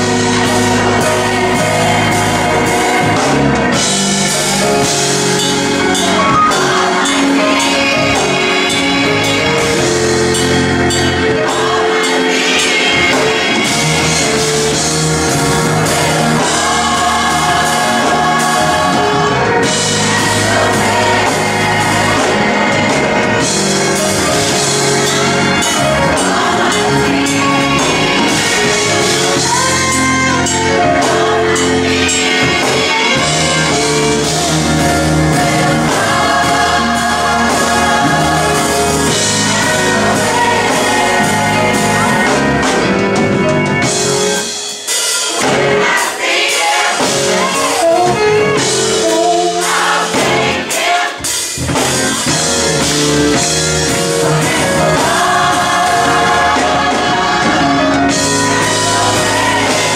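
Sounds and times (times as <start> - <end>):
steady bass line: 0.0 - 11.6, 13.2 - 44.3, 51.6 - 59.9
band accompaniment: 0.0 - 59.9
gospel group singing: 0.0 - 59.9.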